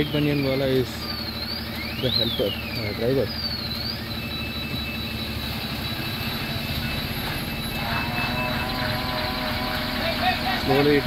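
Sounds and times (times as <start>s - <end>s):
diesel truck engine under load: 0.0s - 11.0s
high whine: 0.0s - 11.0s.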